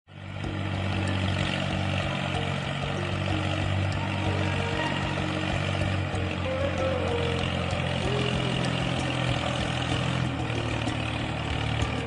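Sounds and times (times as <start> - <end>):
background music: 0.1 - 12.0
small tractor motor running: 0.1 - 12.0.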